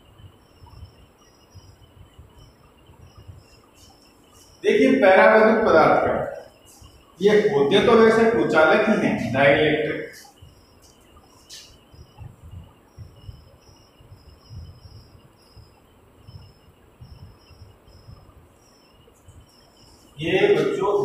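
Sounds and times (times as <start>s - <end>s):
faint high chirps: 0.0s - 21.0s.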